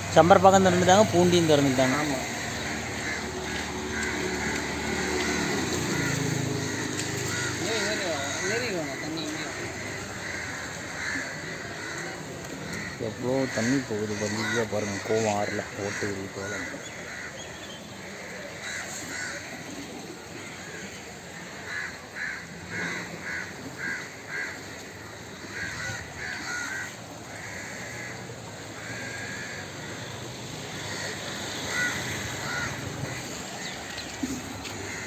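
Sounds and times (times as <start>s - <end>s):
flowing water rushing: 0.0s - 17.2s, 17.8s - 35.0s
crows cawing: 0.0s - 35.0s.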